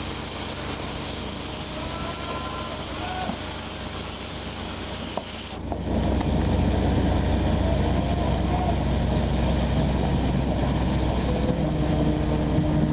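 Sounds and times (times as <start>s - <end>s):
low mechanical engine rumble: 0.0s - 12.9s.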